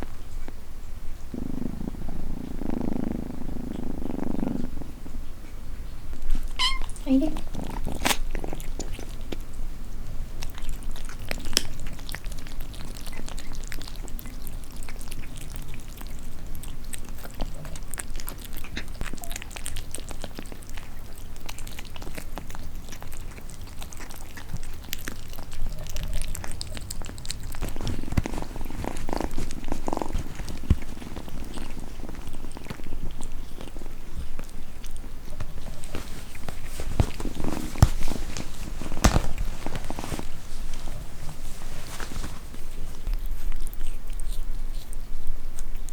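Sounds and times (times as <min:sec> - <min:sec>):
cat purring: 0:00.0 - 0:45.0.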